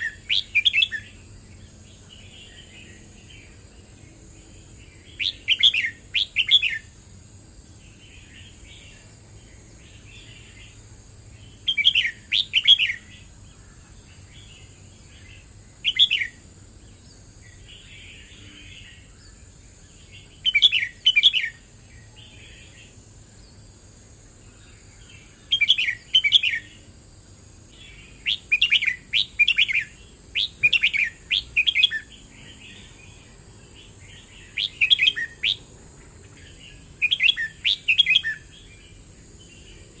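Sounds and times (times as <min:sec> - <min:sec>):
bird singing: 0:00.0 - 0:40.0.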